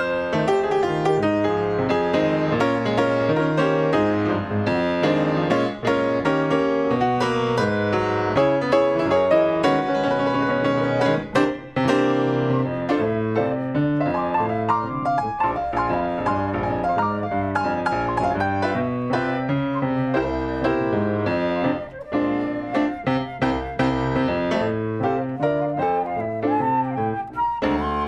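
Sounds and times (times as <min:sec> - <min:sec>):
jazz piano duo playing: 0:00.0 - 0:28.0.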